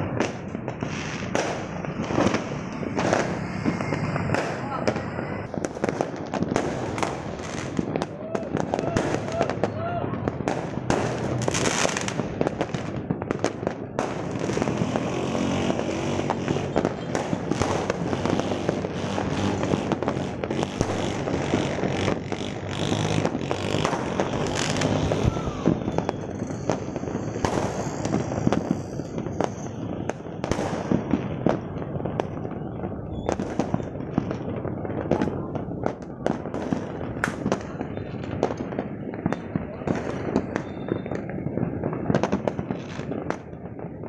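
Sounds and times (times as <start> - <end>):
fireworks and firecrackers exploding: 0.0 - 44.0.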